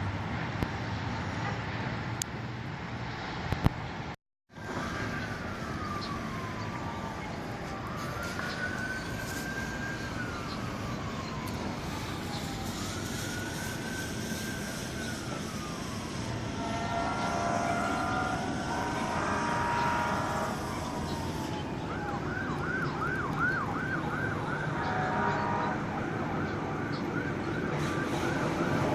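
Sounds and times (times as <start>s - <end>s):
emergency vehicle siren: 4.5s - 28.9s.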